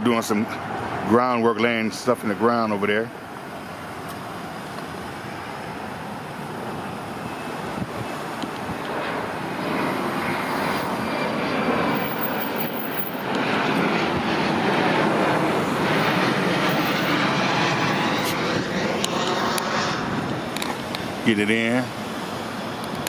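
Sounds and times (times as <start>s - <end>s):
jet airliner rumble overhead: 0.0s - 23.0s.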